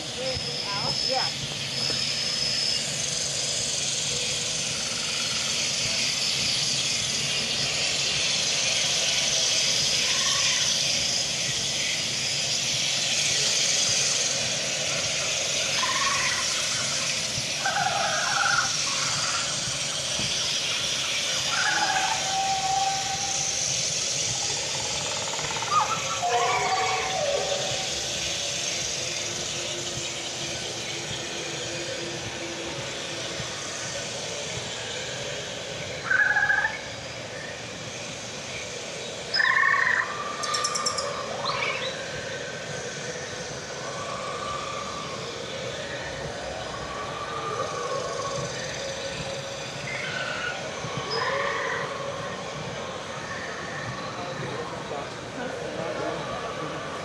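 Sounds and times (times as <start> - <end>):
distant voices: 0.0 - 57.0
steady outdoor hiss: 0.0 - 57.0.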